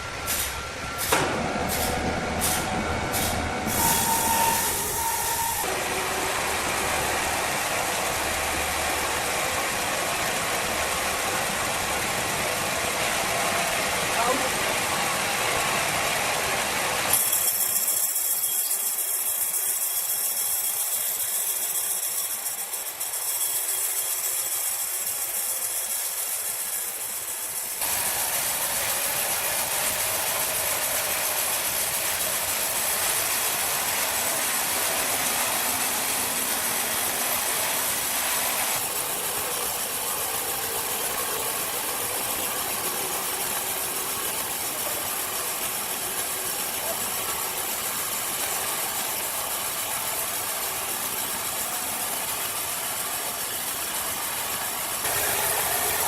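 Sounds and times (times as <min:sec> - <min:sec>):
engine-driven machine running: 0:00.0 - 0:18.2, 0:18.9 - 0:56.0.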